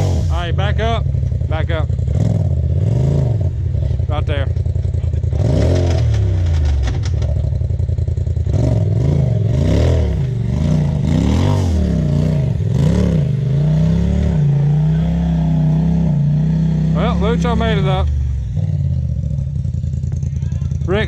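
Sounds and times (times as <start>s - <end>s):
utility vehicle engine revving: 0.0s - 21.0s.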